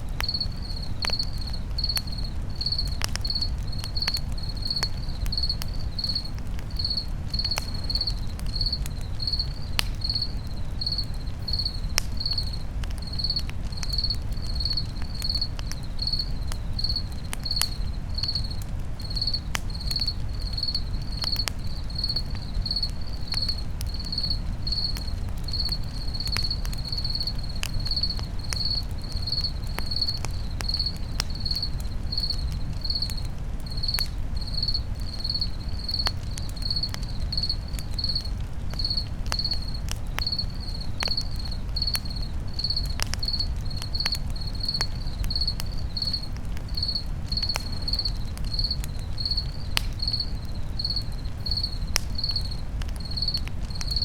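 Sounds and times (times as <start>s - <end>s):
campfire crackling and popping: 0.0s - 54.0s
cricket chirping: 0.0s - 54.0s.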